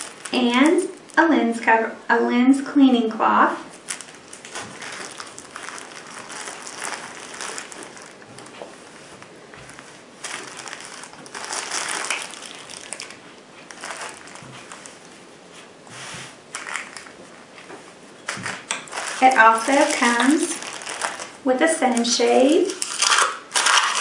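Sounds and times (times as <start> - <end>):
plastic wrapping crinkling: 0.0 - 1.8, 3.7 - 24.0.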